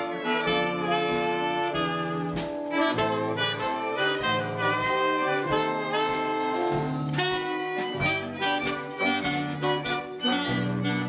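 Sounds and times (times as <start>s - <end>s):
bass line: 0.0s - 11.0s
saxophone section playing chords: 0.0s - 11.0s.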